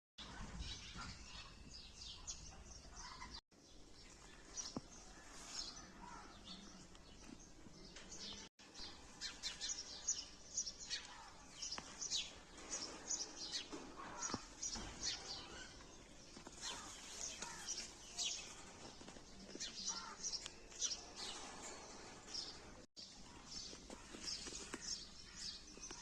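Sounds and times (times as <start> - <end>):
small birds chirping: 0.2 - 26.0.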